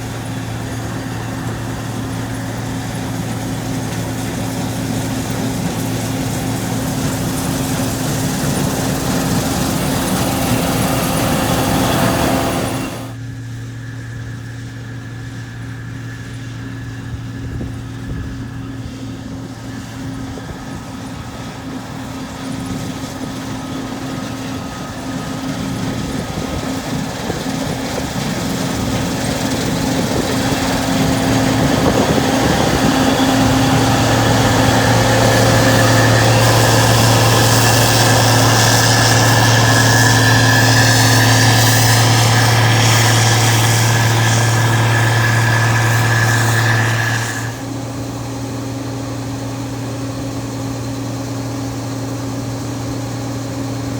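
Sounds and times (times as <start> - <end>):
farm vehicle engine running: 0.0 - 53.9.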